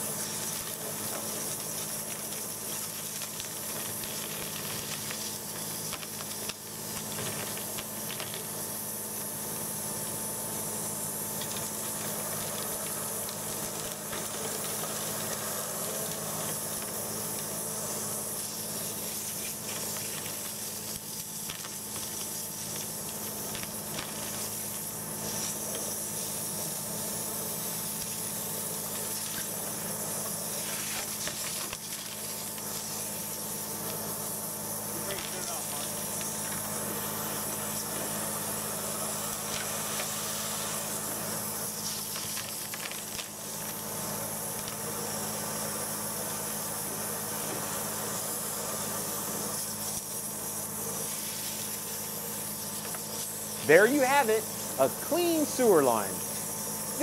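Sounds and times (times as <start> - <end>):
high-pressure water spray hissing: 0.0 - 57.0
machine droning hum: 0.0 - 57.0.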